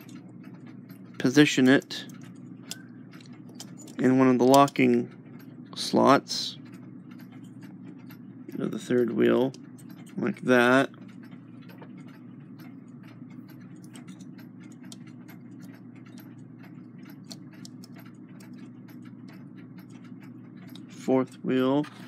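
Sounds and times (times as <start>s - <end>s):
small metallic clicks: 0.0s - 5.6s, 6.6s - 22.0s
steady low hum: 0.0s - 22.0s.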